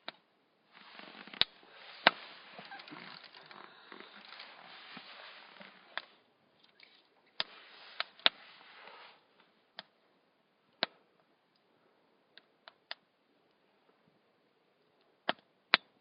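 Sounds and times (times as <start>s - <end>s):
soft hiss: 0.0s - 15.2s.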